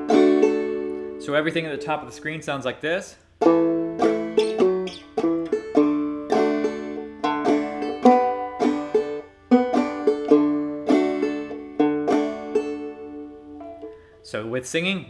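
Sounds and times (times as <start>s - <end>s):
banjo clawhammer playing: 0.0s - 2.2s, 3.4s - 14.1s.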